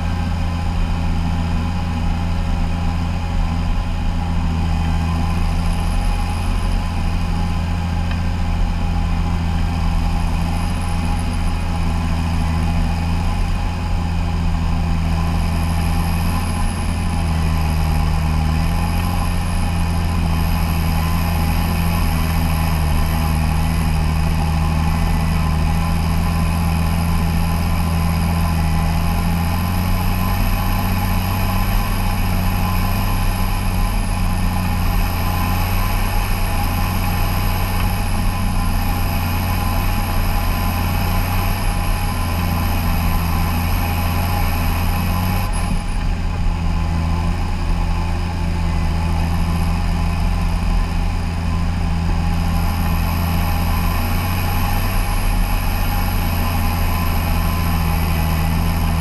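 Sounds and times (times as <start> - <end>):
steady high whine: 0.0 - 59.0
tractor diesel engine running: 0.0 - 59.0.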